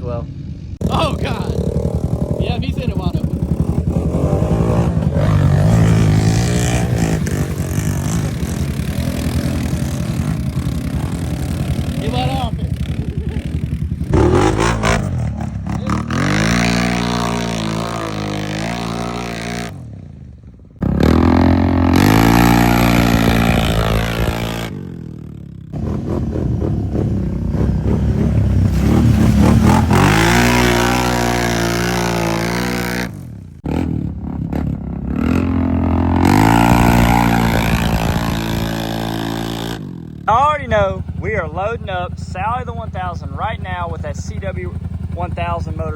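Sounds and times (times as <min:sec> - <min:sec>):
off-road engines revving in mud: 0:00.0 - 0:45.9.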